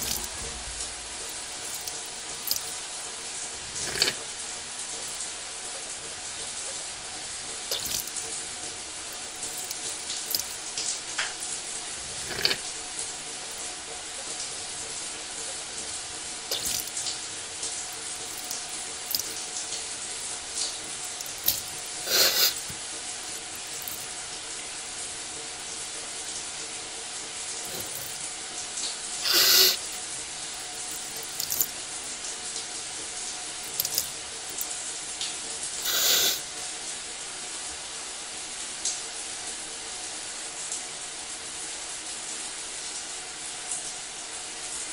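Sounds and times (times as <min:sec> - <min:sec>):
shower water hissing: 0:00.0 - 0:44.9.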